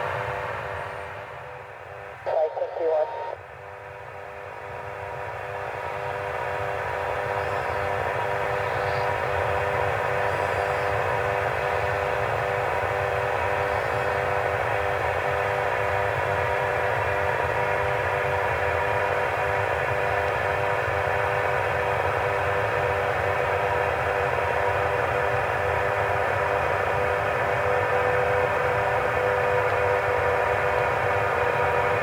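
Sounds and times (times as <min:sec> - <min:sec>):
aircraft turbine engines running: 0:00.0 - 0:32.0.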